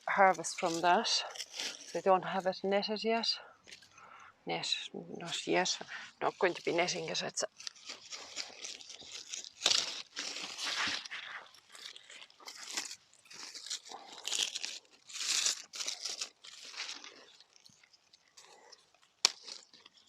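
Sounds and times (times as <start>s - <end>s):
crunching and rustling: 0.0s - 2.4s, 5.3s - 20.0s.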